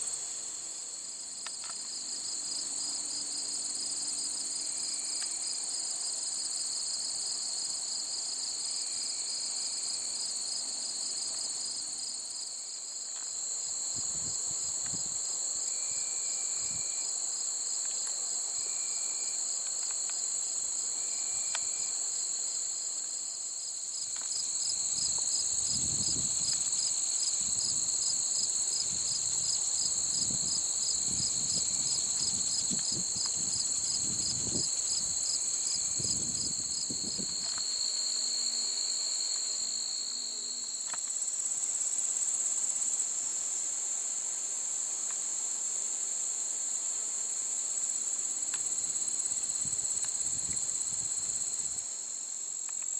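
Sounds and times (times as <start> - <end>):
high continuous insect trill: 0.0 - 52.9
rapidly pulsing insect trill: 0.0 - 52.9.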